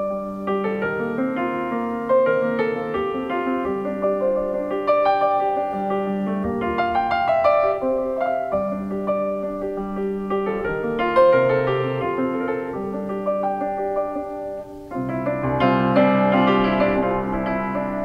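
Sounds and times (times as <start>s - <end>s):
solo piano: 0.0s - 18.0s.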